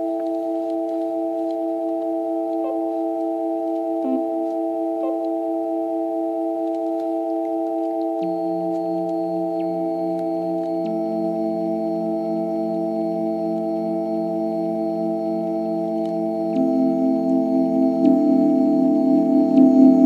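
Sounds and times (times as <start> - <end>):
steady electronic chord tones: 0.0 - 20.0.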